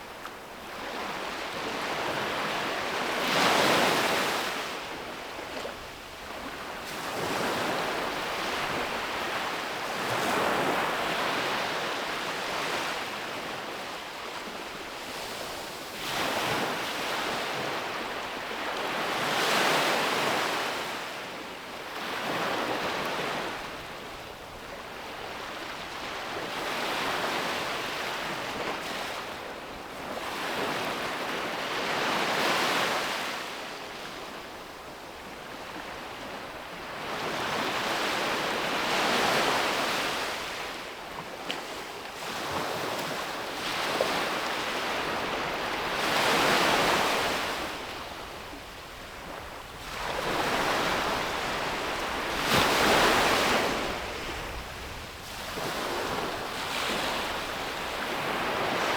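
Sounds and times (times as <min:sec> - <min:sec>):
sea waves breaking on a beach: 0:00.0 - 0:58.9.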